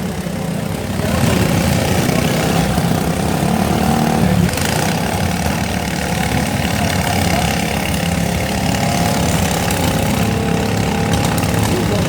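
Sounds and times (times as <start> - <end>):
lawn mower engines running: 0.0 - 12.0.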